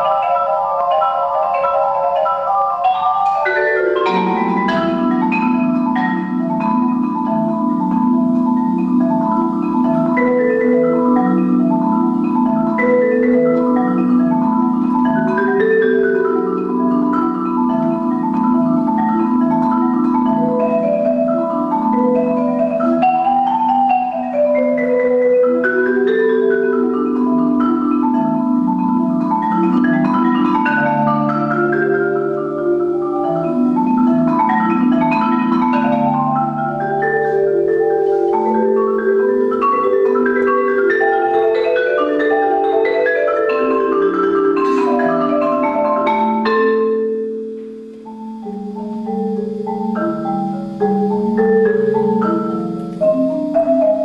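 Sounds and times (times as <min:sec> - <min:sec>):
marimba played with mallets: 0:00.0 - 0:54.0.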